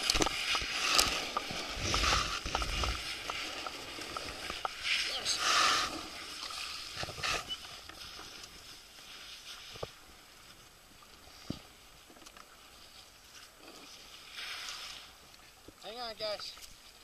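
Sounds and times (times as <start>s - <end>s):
rustling and scraping on ice: 0.0s - 10.6s, 11.3s - 15.6s.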